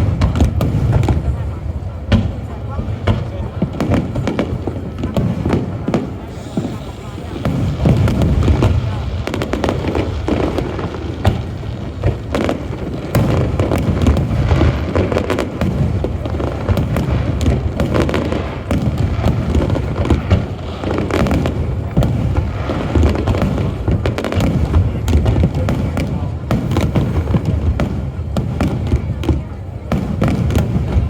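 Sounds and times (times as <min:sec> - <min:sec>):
booming aerial firework shells: 0:00.0 - 0:31.0
crackling firework bursts: 0:00.0 - 0:31.0.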